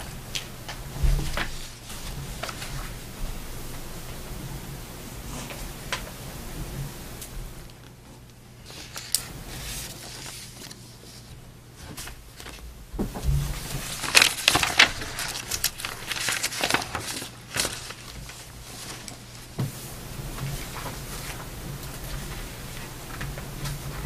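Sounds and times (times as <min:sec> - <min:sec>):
paper rustling and shuffling: 0:00.0 - 0:03.8, 0:07.9 - 0:24.0
steady low hum: 0:00.0 - 0:24.0.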